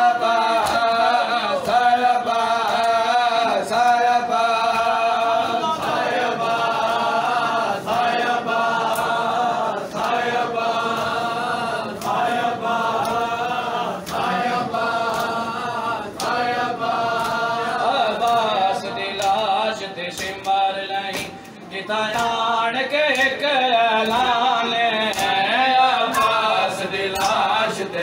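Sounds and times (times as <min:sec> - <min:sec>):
men chanting in unison: 0:00.0 - 0:28.0.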